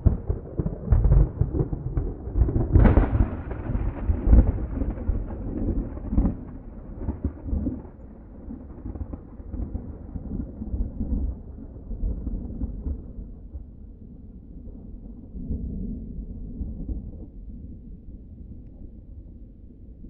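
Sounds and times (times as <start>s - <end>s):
rolling thunder: 0.0s - 19.4s.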